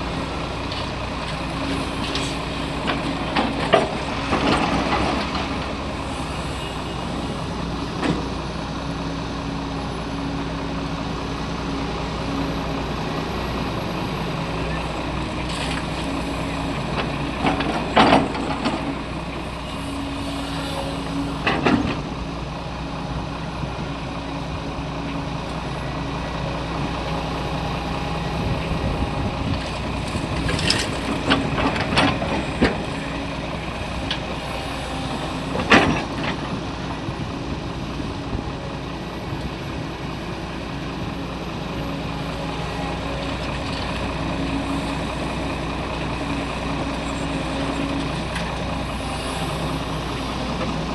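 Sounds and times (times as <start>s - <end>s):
heavy diesel machinery running: 0.0s - 50.9s.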